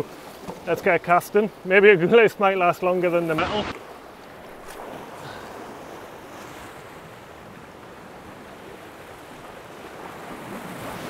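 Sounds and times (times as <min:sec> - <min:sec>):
waves breaking against rocks: 0:00.0 - 0:11.0.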